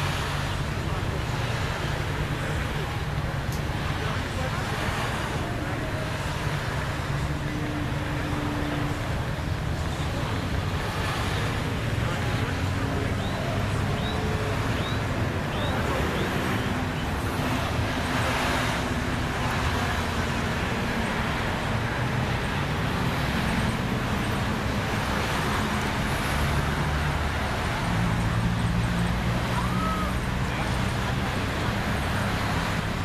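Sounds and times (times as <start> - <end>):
car passing: 0.0 - 33.0
low hum of vehicle engines: 0.0 - 33.0.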